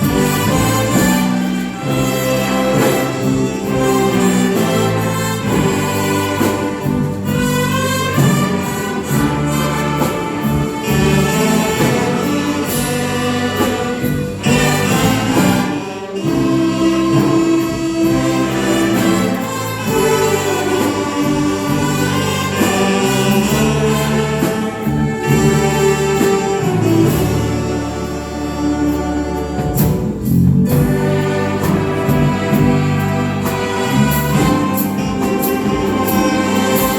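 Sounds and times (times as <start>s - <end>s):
orchestra playing gospel piece: 0.0s - 36.9s.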